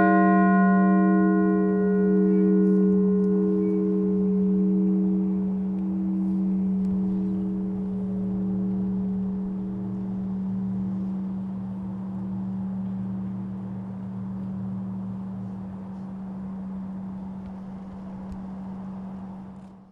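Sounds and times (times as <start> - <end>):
fire bell humming: 0.0 - 19.5.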